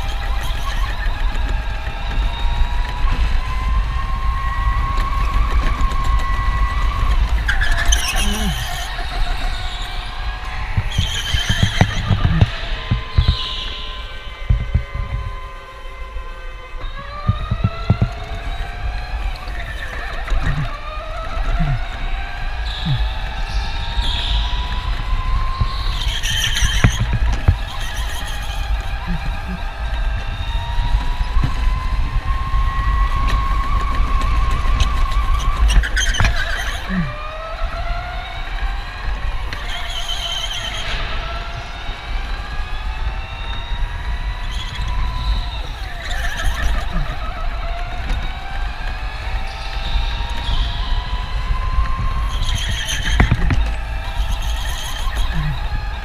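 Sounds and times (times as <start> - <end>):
electric go-kart motor whining: 0.0 - 56.0
low rumble of kart: 0.0 - 56.0.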